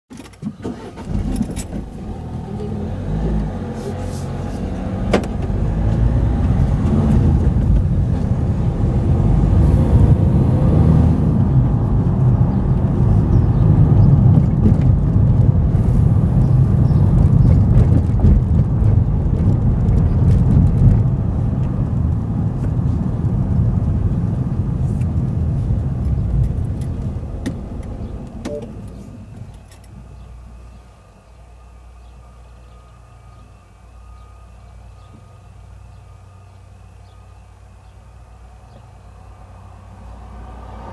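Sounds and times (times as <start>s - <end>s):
car engine and tyre noise: 0.1s - 40.9s.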